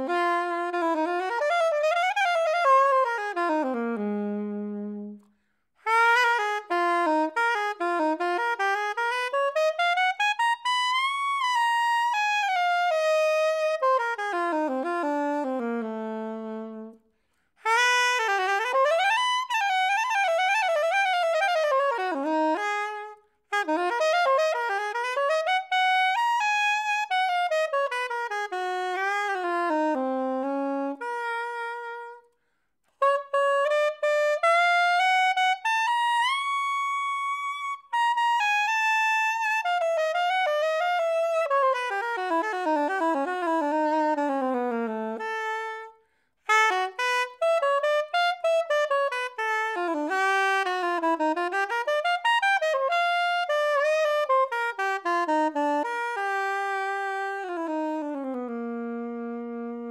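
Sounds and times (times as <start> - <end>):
solo soprano saxophone: 0.0 - 59.9.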